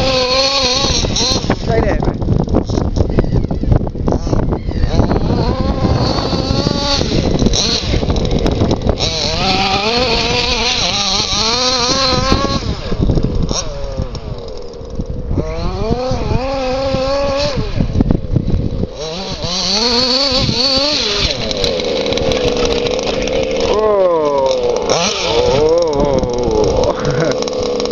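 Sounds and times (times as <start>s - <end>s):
rc buggy engine revving: 0.0s - 27.9s.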